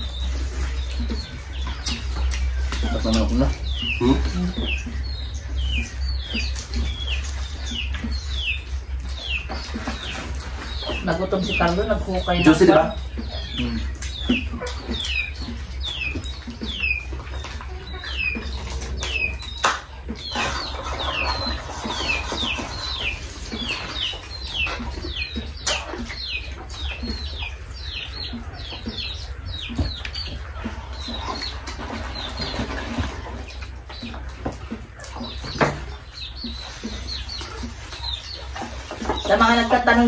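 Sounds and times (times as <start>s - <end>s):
bird chirping: 0.0s - 40.0s
clicks and rustles of people eating: 0.0s - 40.0s
low steady hum: 0.0s - 40.0s.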